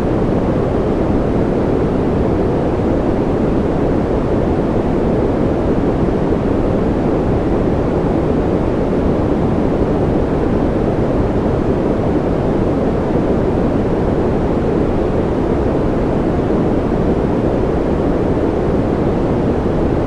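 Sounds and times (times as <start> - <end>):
steady white noise rush: 0.0 - 20.0.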